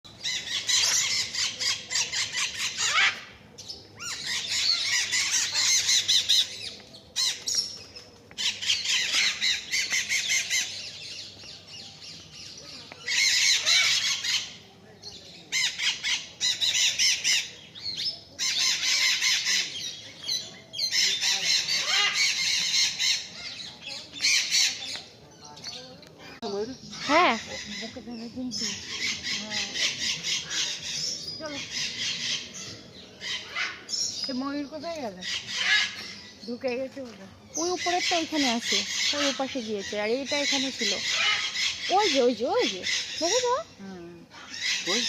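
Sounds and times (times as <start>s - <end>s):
birds chattering and squawking: 0.1s - 45.0s.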